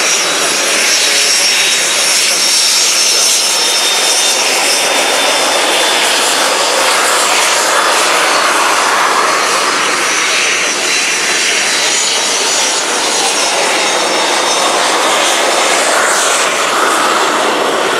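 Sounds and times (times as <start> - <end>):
jet engine rushing and whining: 0.0 - 17.9.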